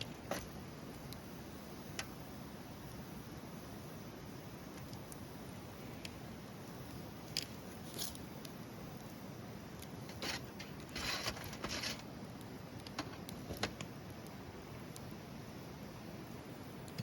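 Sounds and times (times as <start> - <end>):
low steady rush: 0.0 - 17.0
wood fire crackling: 0.0 - 17.0.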